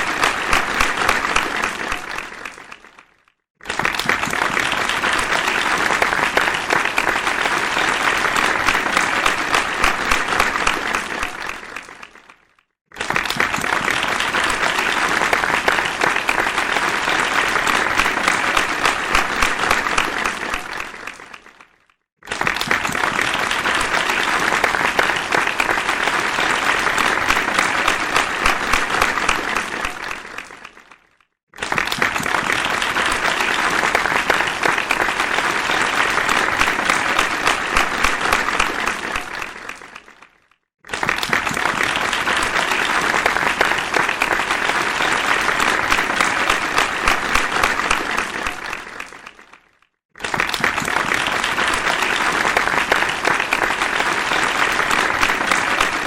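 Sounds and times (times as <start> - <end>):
crowd applause: 0.0 - 49.6, 50.2 - 56.0.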